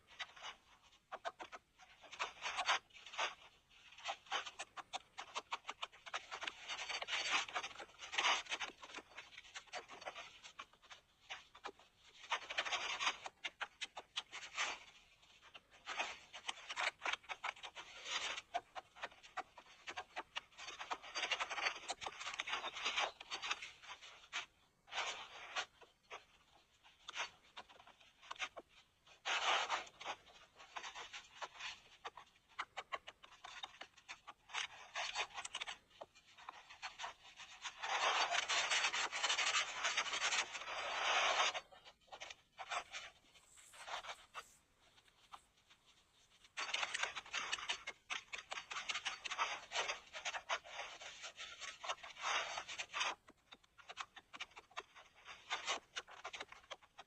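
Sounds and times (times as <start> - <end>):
rubbing and scraping: 0.0 - 57.0.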